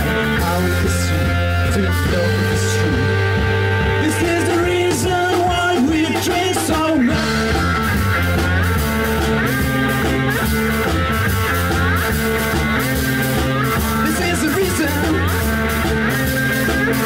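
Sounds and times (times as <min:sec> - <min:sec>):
person singing: 0:00.0 - 0:03.4, 0:04.0 - 0:08.6, 0:11.3 - 0:17.0
drums: 0:00.0 - 0:17.0
electric bass: 0:00.0 - 0:17.0.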